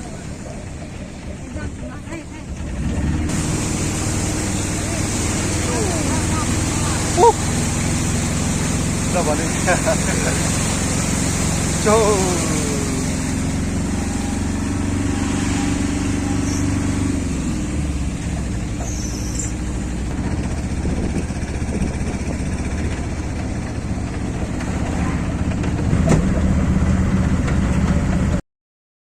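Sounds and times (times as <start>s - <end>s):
noisy rush: 0.0s - 27.4s
motor engine running: 0.0s - 28.4s.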